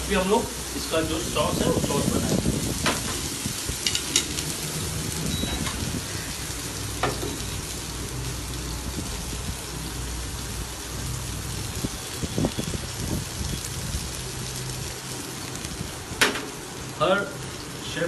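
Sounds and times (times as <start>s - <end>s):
oil sizzling in frying pan: 0.0s - 18.0s.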